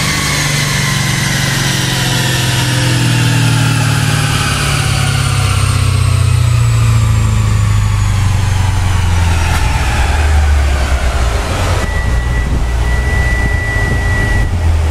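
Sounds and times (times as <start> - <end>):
car engine winding down: 0.0 - 14.9
high turbo whistle: 0.0 - 14.9.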